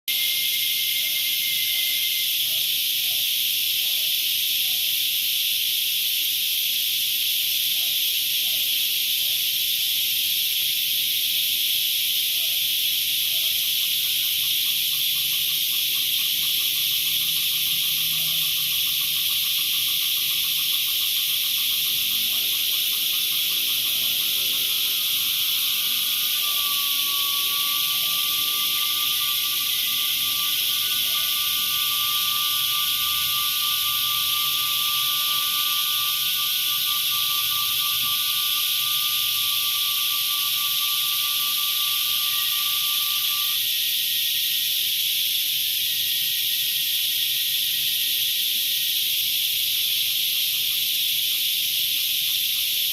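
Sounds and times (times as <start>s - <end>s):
cicadas buzzing: 0.1s - 52.9s.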